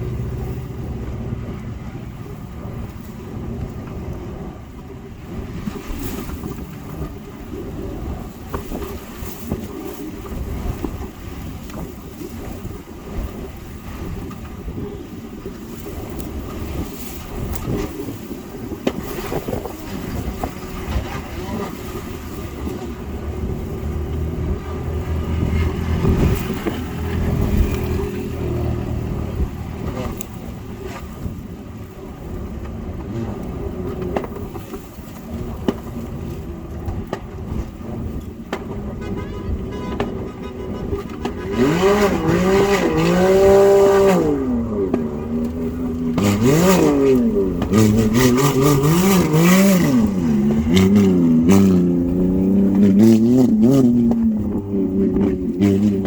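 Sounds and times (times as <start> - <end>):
vehicle engines droning: 0.0 - 56.0.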